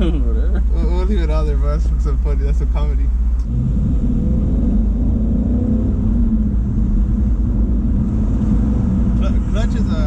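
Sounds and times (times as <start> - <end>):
car engine rumbling in cabin: 0.0 - 10.0.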